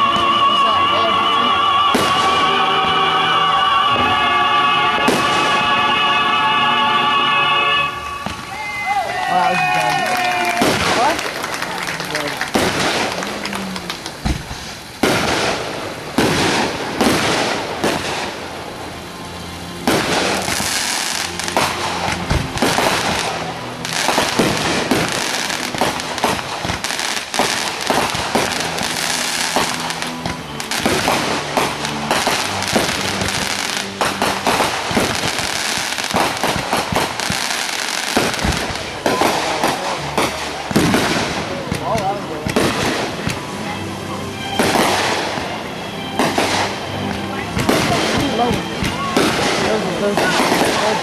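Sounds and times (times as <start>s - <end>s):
fireworks bangs: 0.0s - 51.0s
fireworks crackling: 0.0s - 51.0s.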